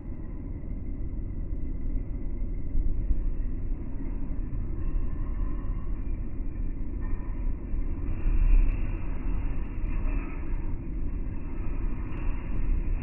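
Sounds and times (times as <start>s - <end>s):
muffled rumble of train: 0.0s - 13.0s.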